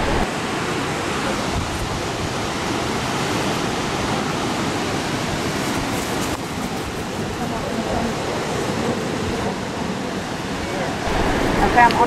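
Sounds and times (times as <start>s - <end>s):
white water rushing: 0.0s - 12.0s.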